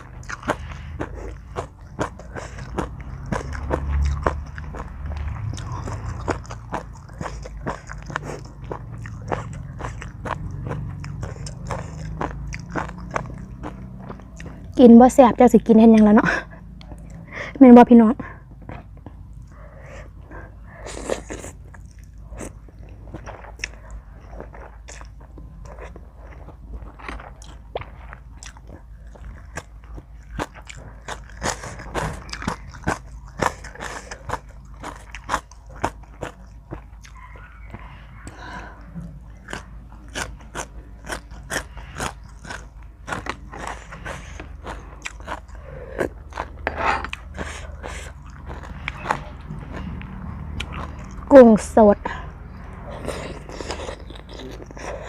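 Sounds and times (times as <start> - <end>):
person chewing crunchy food: 0.0 - 17.3, 18.2 - 55.0.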